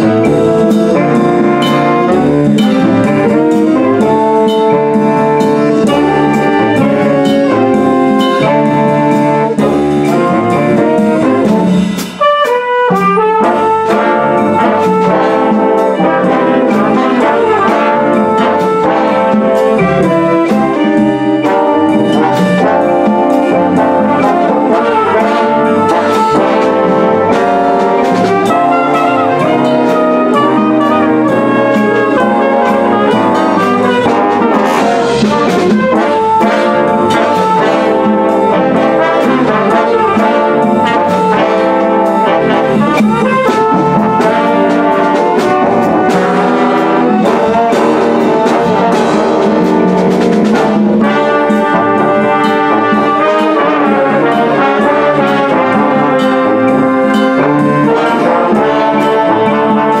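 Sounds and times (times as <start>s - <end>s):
concert band playing: 0.0s - 60.0s
struck percussion notes: 0.0s - 60.0s.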